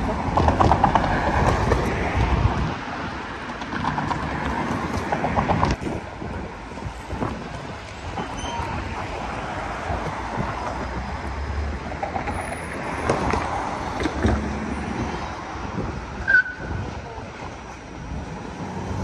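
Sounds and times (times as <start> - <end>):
cars passing: 0.0 - 19.0
streetcar rolling on rails: 0.0 - 19.0.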